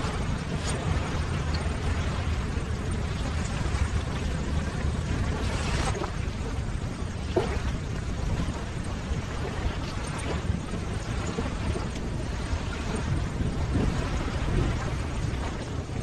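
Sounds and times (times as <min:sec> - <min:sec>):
ocean waves rumbling: 0:00.0 - 0:16.0.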